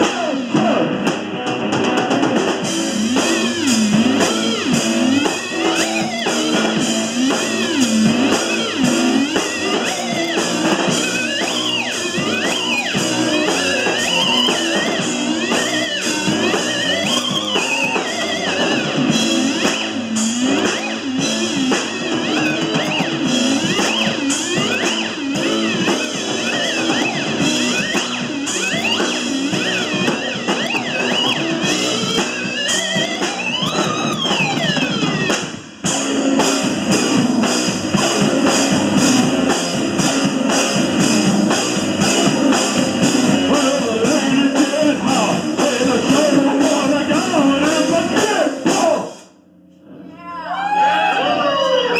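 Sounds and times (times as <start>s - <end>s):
electric guitar bending notes: 0.0s - 49.0s
drums and cymbals: 0.0s - 49.4s
live rock band playing: 0.0s - 51.9s.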